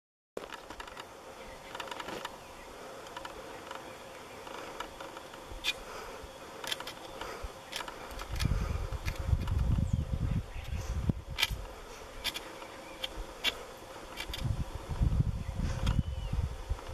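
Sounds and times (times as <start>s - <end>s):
insects buzzing: 0.4s - 16.9s.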